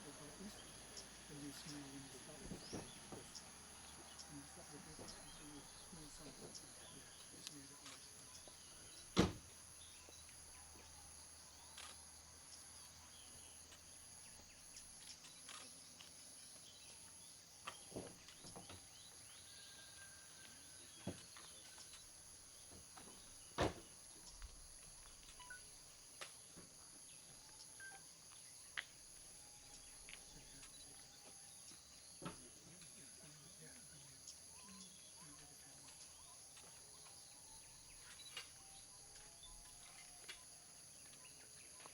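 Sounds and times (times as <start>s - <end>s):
insects chirring: 0.0s - 41.9s.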